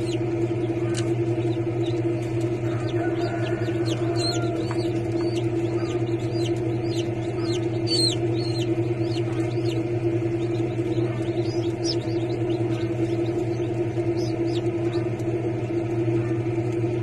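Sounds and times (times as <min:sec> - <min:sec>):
chicks peeping: 0:00.0 - 0:17.0
low hum: 0:00.0 - 0:17.0.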